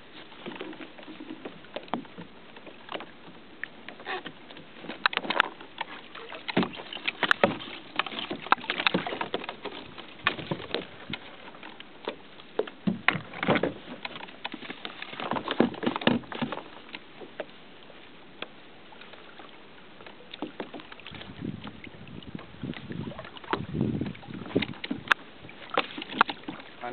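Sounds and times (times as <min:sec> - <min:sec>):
small waves slapping kayak hull: 0:00.0 - 0:26.9.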